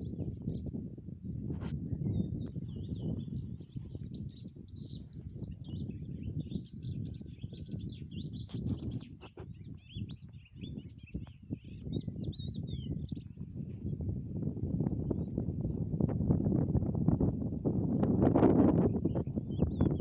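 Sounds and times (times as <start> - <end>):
small birds chirping and twittering: 0.0 - 0.8, 1.8 - 17.5, 18.5 - 20.0.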